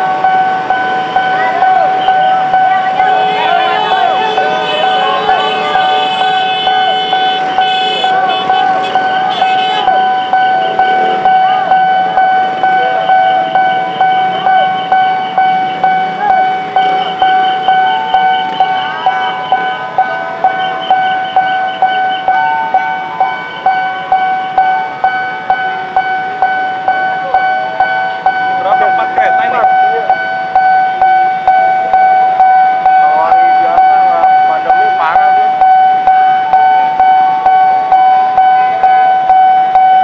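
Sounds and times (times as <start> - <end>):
level crossing bell ringing: 0.0 - 40.0
street traffic: 0.0 - 40.0.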